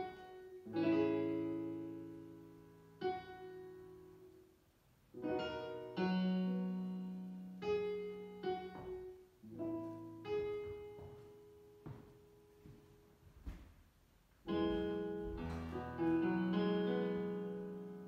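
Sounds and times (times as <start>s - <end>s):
digital piano slow chords: 0.0s - 13.4s, 14.4s - 18.0s.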